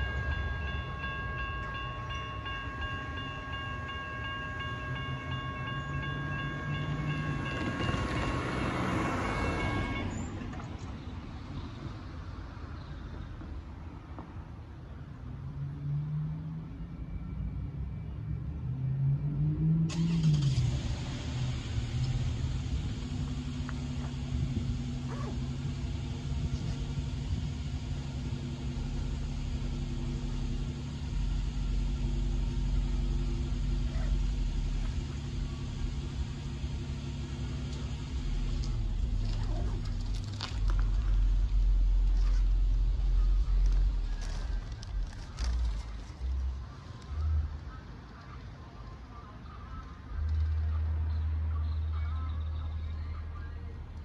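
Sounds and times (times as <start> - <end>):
low traffic rumble: 0.0 - 54.0
steady engine hum: 0.0 - 54.0.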